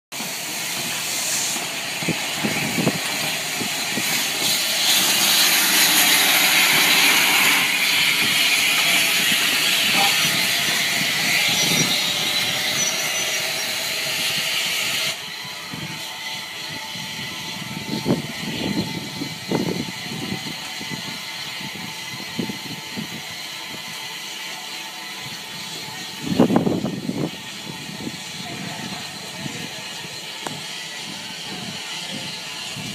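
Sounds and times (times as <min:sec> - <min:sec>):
steam locomotive hissing: 0:00.1 - 0:32.9.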